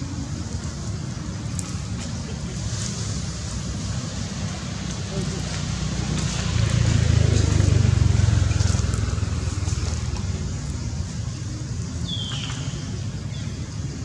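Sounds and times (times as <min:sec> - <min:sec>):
motor vehicle passing: 0:00.0 - 0:14.0.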